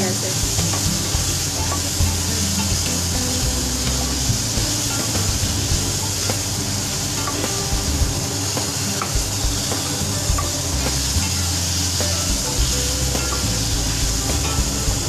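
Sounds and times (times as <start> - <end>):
pan hissing: 0.0 - 15.0.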